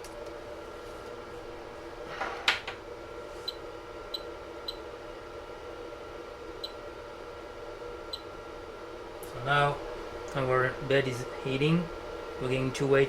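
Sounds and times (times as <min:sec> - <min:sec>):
printer fans humming: 0:00.0 - 0:13.0.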